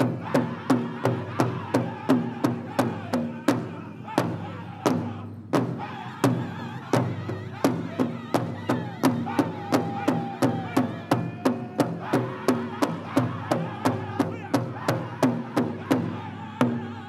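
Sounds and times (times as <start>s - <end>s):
group singing: 0.0s - 17.0s
large drum beating: 0.0s - 17.0s.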